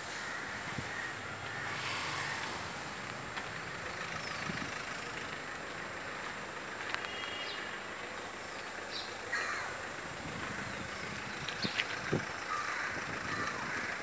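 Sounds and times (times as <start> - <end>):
street traffic hiss: 0.0 - 14.0.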